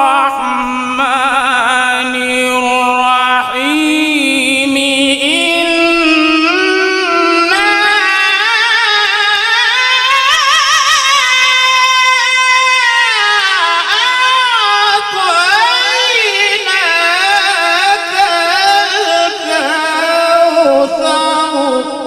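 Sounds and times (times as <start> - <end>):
man reciting melodically: 0.0 - 22.0.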